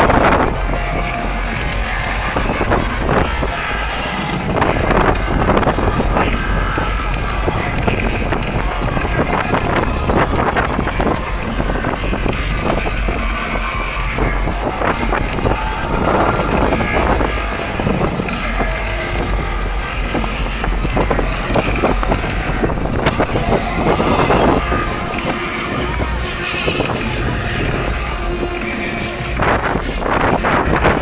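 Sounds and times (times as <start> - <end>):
boat engine running: 0.0 - 31.0
wind buffeting microphone: 0.0 - 31.0.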